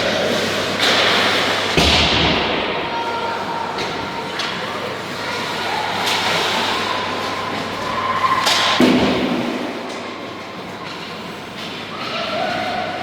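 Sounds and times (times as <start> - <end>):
echoing indoor game noise: 0.0 - 13.0.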